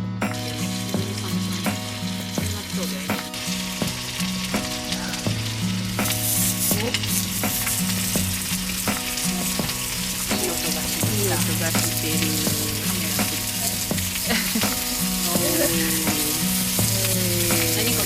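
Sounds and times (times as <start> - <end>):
food sizzling in a pan: 0.0 - 18.0
light background music: 0.0 - 18.0.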